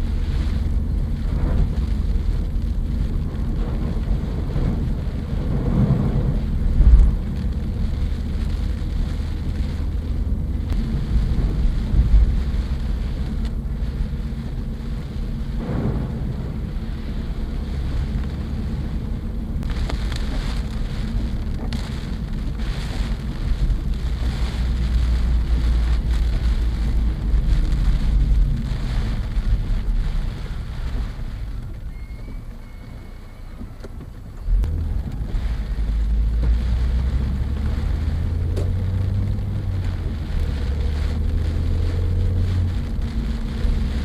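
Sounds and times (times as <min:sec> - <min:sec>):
low rumble of road noise: 0:00.0 - 0:44.0
rain and wind beating on car: 0:00.0 - 0:44.0.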